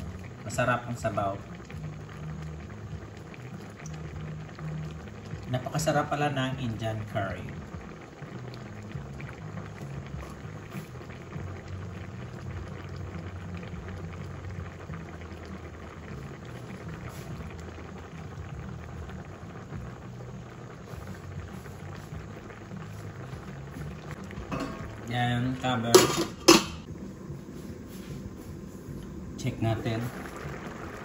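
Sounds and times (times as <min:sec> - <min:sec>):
curry bubbling in a pan: 0:00.0 - 0:31.0.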